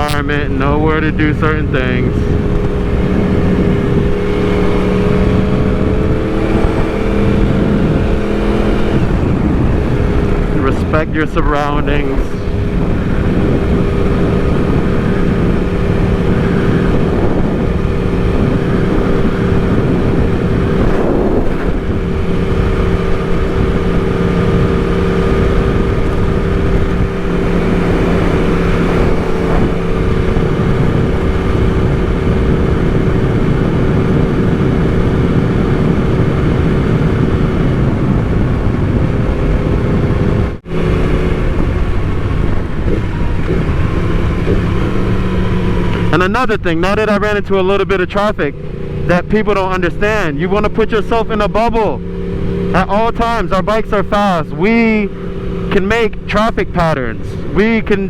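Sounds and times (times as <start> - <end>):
motorcycle engine cruising: 0.0 - 58.0
wind rushing past microphone: 0.0 - 58.0.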